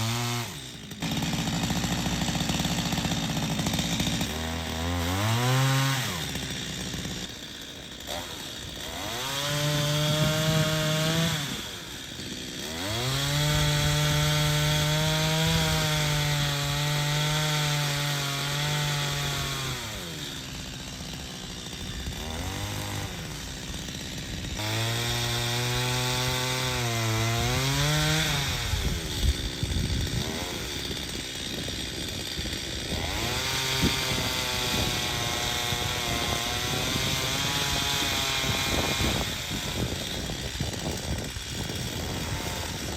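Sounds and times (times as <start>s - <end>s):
chainsaw revving while cutting wood: 0.0s - 42.9s.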